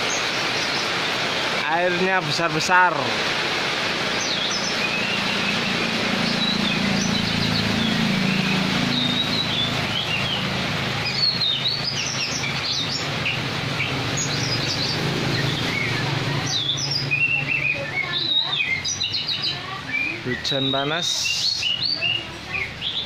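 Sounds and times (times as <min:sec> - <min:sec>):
rain falling: 0:00.0 - 0:23.0
small birds chirping: 0:00.0 - 0:23.0.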